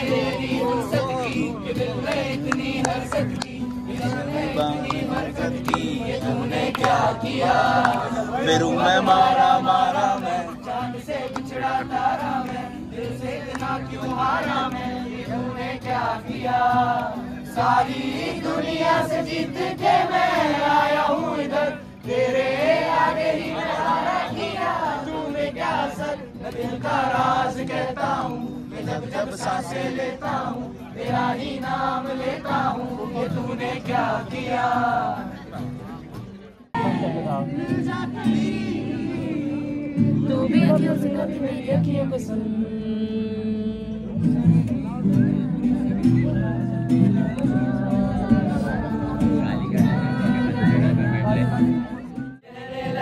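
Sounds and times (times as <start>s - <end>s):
group of voices singing: 0.0s - 35.8s, 36.7s - 53.0s
acoustic guitar strumming: 0.0s - 53.0s.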